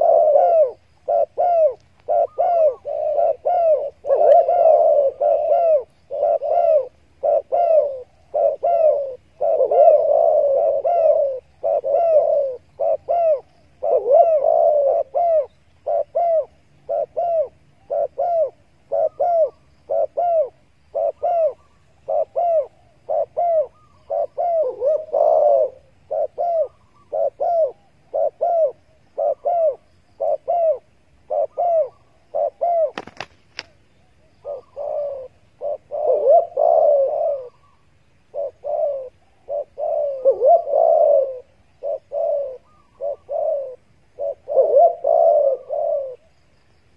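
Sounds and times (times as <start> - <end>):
doves cooing: 0.0 - 46.4.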